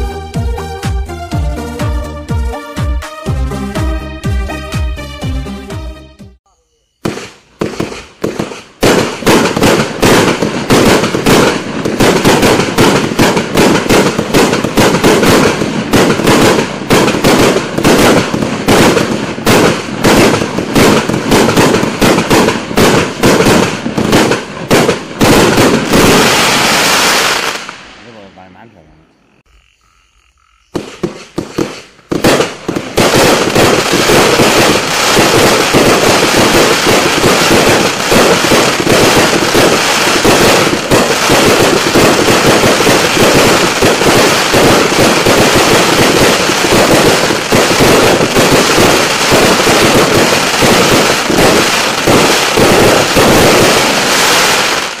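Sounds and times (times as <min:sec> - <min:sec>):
firework launches: 0:07.0 - 0:28.3, 0:30.8 - 0:55.0
rapid firework barrage: 0:07.0 - 0:28.3, 0:30.7 - 0:55.0.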